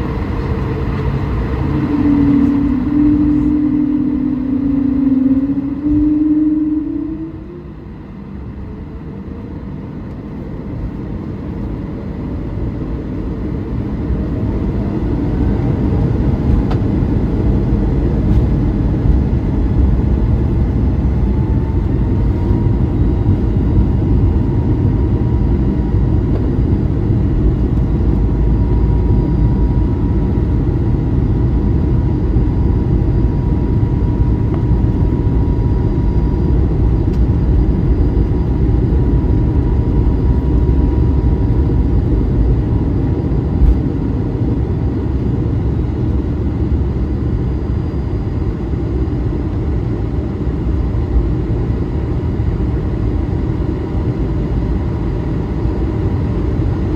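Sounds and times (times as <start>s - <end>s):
jet engine whine rising: 0.0s - 56.9s
loud jet engine rumble: 0.0s - 56.9s.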